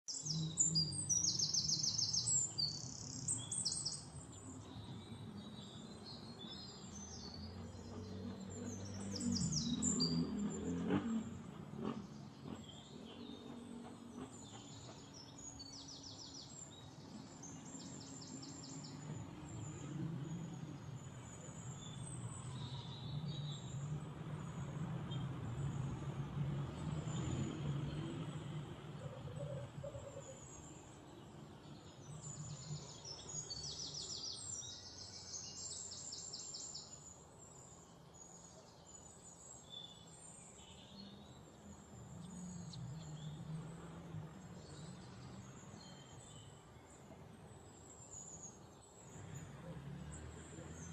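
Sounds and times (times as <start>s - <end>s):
small birds chirping in trills: 0.1s - 50.9s.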